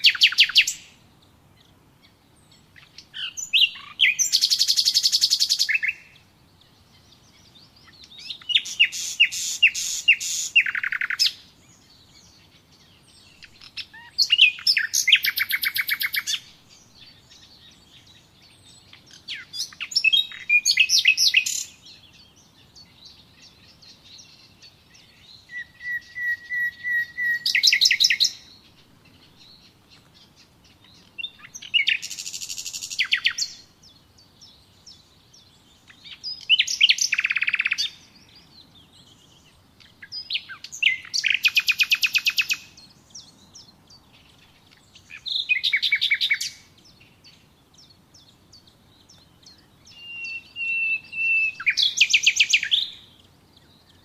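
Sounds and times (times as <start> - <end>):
songbird trilling: 0.0 - 54.0.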